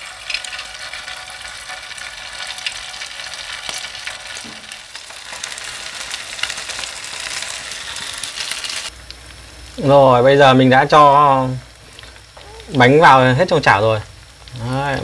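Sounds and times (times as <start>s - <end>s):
rice cake frying in hot oil: 0.0s - 15.0s.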